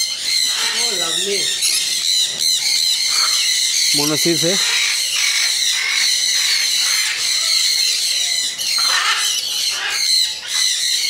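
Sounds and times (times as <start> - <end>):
parrots squawking and screeching: 0.0 - 11.0.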